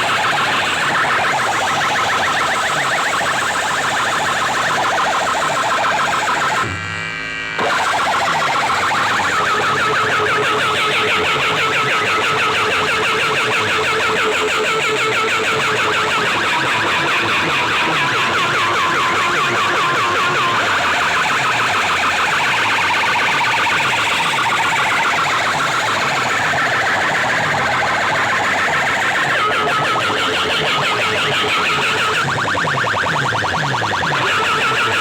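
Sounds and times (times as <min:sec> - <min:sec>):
electronic warbling alarm tones: 0:00.0 - 0:07.0, 0:07.6 - 0:35.0.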